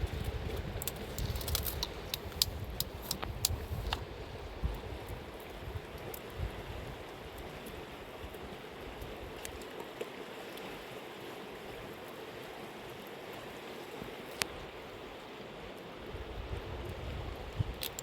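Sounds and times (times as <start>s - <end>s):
river water running: 0.0s - 18.0s.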